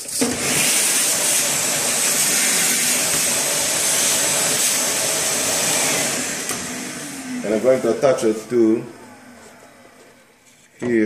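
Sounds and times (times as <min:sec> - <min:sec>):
vacuum cleaner running: 0:00.0 - 0:10.5.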